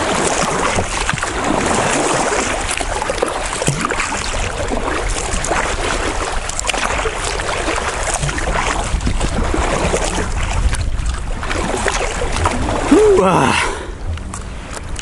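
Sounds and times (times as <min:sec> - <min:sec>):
water splashing against kayak hull: 0:00.0 - 0:15.0
wind buffeting microphone: 0:00.0 - 0:15.0.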